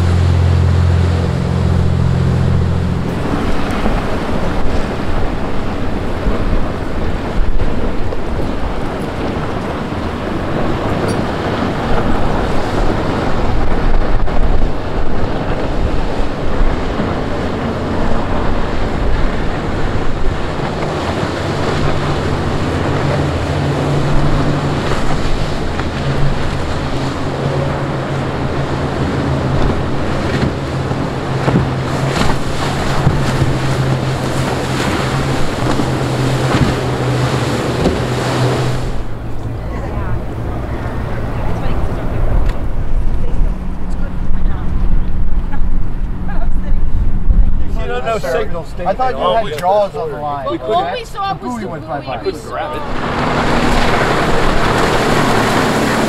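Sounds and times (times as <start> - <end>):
wind on microphone: 0.0 - 48.6, 52.6 - 56.0
boat engine drone: 0.0 - 56.0
rush of wake and sea: 0.0 - 56.0.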